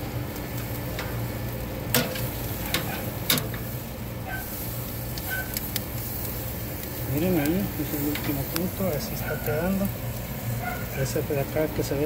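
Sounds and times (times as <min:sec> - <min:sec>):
steak sizzling on grill: 0:00.0 - 0:12.0.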